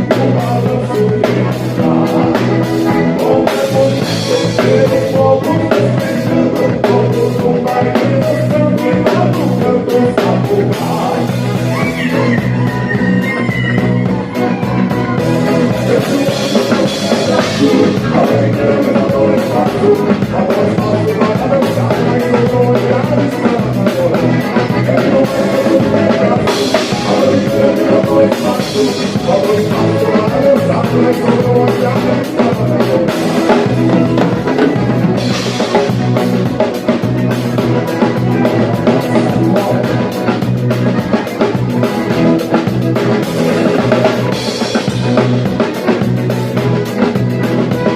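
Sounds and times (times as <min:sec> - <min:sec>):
accordion playing tune: 0:00.0 - 0:47.9
drum kit beat: 0:00.0 - 0:47.9.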